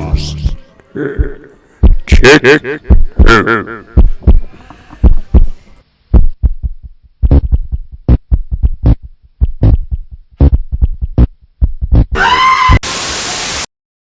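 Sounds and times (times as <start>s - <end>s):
deep thumping beat: 0.0s - 12.2s.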